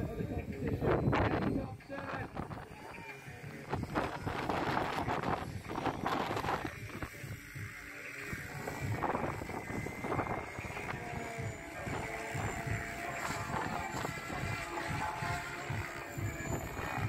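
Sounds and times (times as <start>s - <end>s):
model helicopter motor whine: 0.0s - 17.0s.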